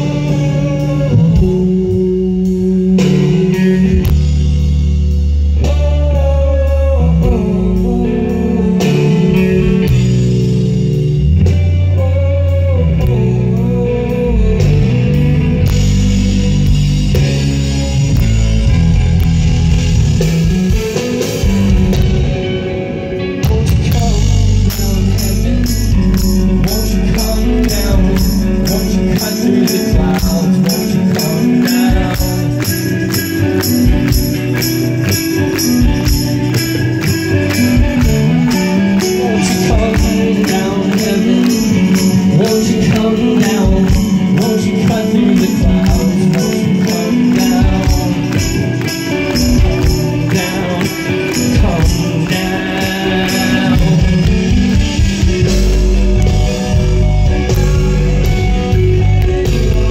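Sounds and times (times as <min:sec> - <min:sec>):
person singing: 0:00.0 - 0:04.2, 0:05.5 - 0:11.1, 0:11.7 - 0:16.9, 0:20.9 - 0:59.9
drums steady beat: 0:00.0 - 0:22.8, 0:23.4 - 0:59.9
bass guitar: 0:00.0 - 0:59.9
electric guitars: 0:00.0 - 0:59.9.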